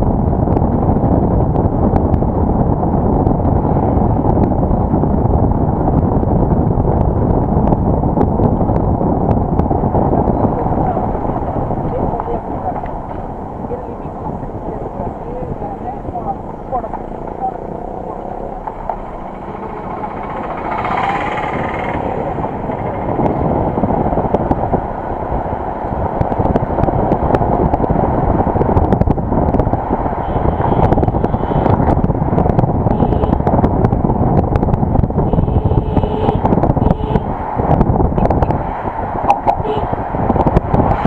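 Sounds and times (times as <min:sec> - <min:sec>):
vehicle road and wind noise: 0:00.0 - 0:41.0.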